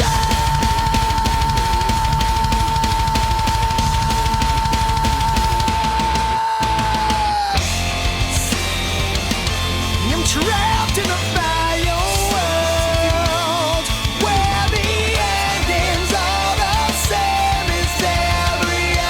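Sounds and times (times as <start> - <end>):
heavy rock music: 0.0 - 19.0.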